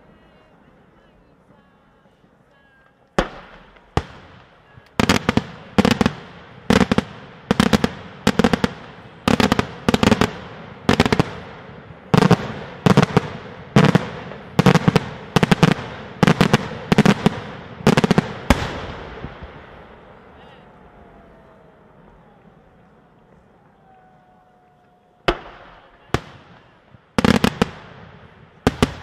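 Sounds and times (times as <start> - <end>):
fireworks bangs echoing: 0.1 - 24.5, 25.1 - 29.0.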